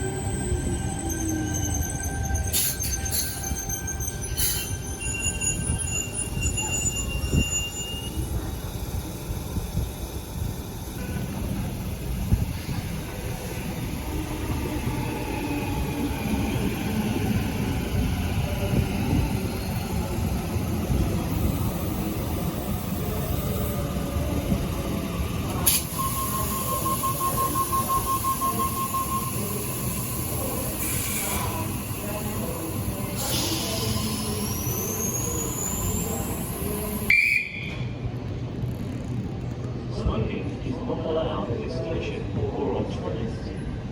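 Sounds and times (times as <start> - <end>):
train rumbling: 0.0 - 43.9.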